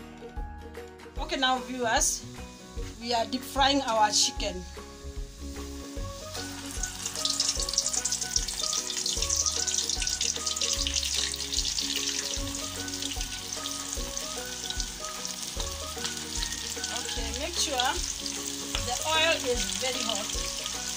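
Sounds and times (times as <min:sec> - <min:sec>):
background music with bass: 0:00.0 - 0:20.9
hot oil sizzling and crackling: 0:01.2 - 0:20.9.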